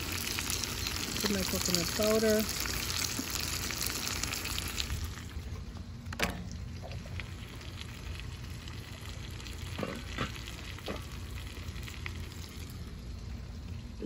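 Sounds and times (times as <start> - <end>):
curry sizzling and bubbling: 0.0 - 14.0
gas burner rumble: 0.0 - 14.0.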